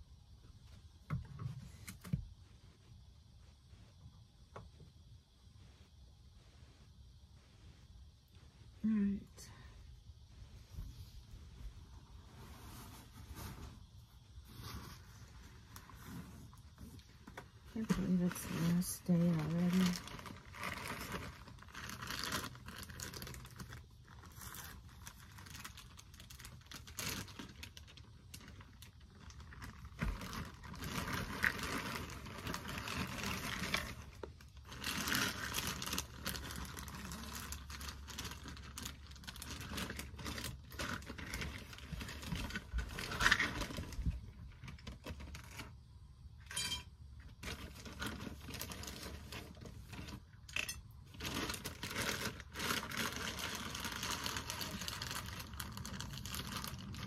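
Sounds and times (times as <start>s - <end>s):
rustling and crinkling: 0.0s - 57.0s.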